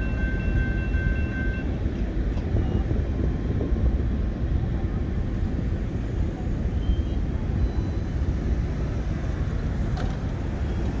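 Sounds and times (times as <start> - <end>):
wind on microphone: 0.0 - 11.0
steady low rumble: 0.8 - 11.0.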